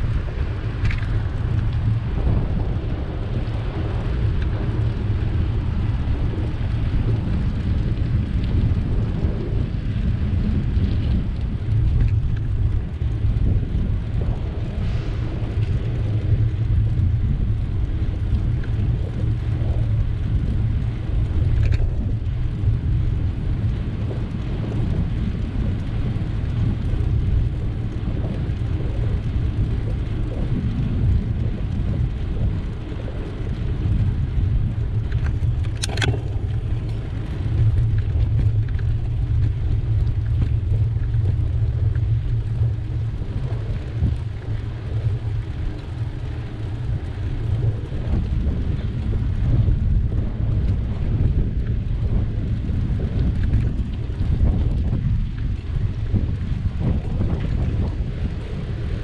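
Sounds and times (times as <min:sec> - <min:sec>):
road noise while cycling: 0:00.0 - 0:59.0
wind buffeting microphone: 0:00.0 - 0:59.0.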